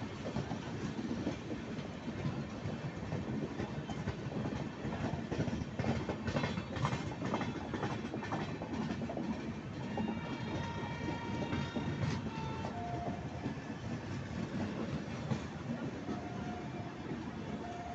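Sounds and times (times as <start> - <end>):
train rumble: 0.0 - 17.9
train wheels clacking over rail joints: 0.0 - 17.9.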